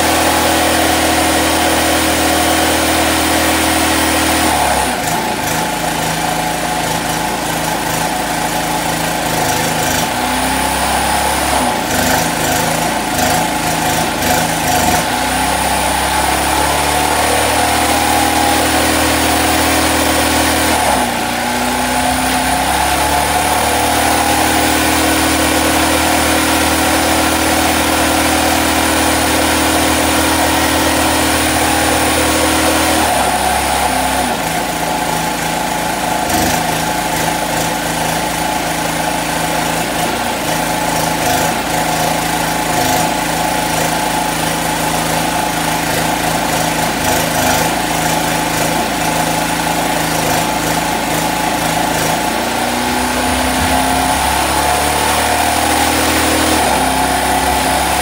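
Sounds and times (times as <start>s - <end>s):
portable generator running: 0.0s - 58.0s
welding arc crackling and hissing: 5.0s - 58.0s.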